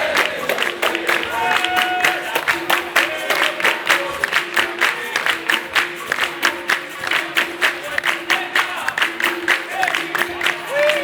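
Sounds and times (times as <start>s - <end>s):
hand claps: 0.0s - 11.0s
percussion beat: 0.0s - 11.0s
voices singing: 0.0s - 11.0s.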